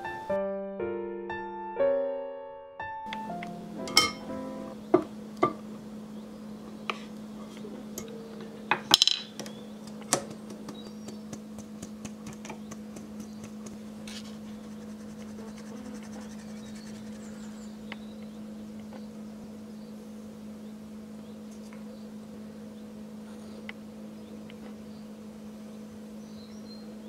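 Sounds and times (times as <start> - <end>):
steady low hum: 3.1 - 27.0.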